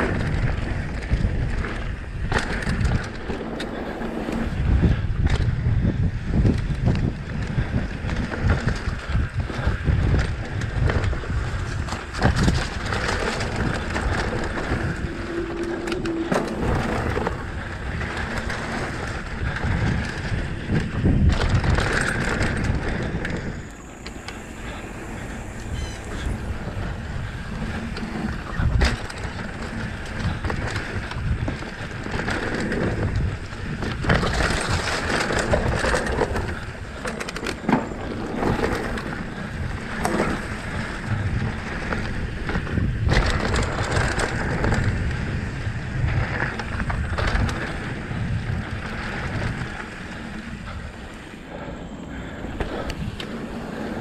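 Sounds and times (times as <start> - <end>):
bike rattling over bumps: 0.0 - 54.0
wind rumbling on microphone: 0.0 - 54.0.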